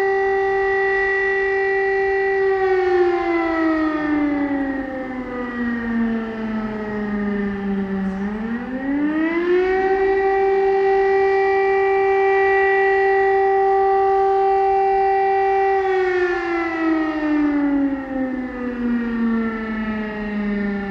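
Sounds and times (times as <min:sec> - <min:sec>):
civil defense siren: 0:00.0 - 0:20.9.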